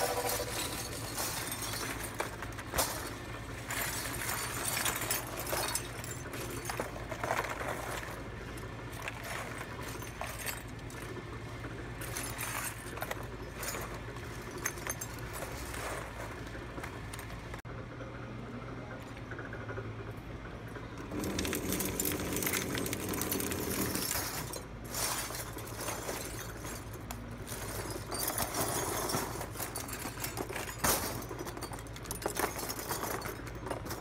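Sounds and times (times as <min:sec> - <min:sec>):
copper wire clinking and rustling: 0:00.0 - 0:17.4, 0:21.1 - 0:34.0.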